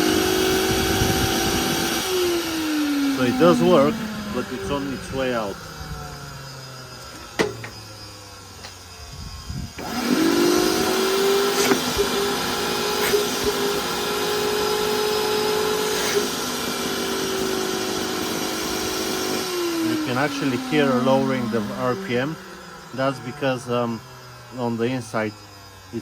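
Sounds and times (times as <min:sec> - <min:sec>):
vacuum cleaner motor whine: 0:00.0 - 0:26.0.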